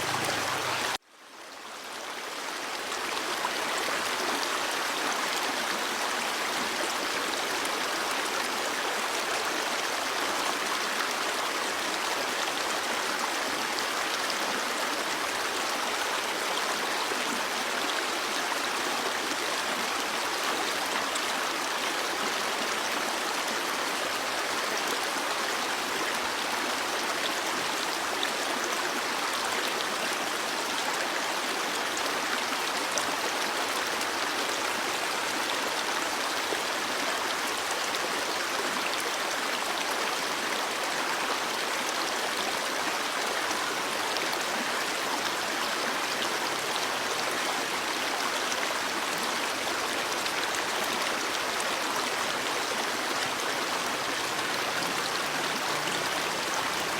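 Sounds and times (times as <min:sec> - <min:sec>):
stream babbling: 0:00.0 - 0:56.9.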